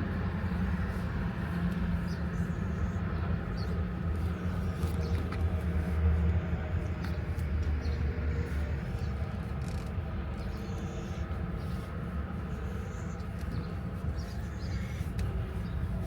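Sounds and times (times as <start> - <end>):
road noise: 0.0 - 16.0
vehicle driving hum: 0.0 - 16.0.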